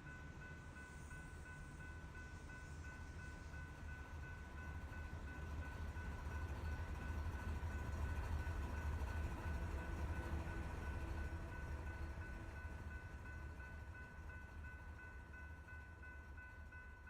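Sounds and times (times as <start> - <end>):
freight train cars rolling on rails: 0.0 - 17.0.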